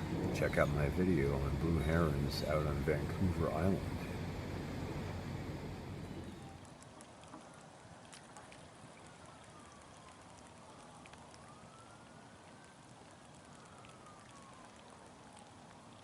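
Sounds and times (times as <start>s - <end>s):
faint wailing siren: 0.0s - 6.8s, 7.4s - 16.0s.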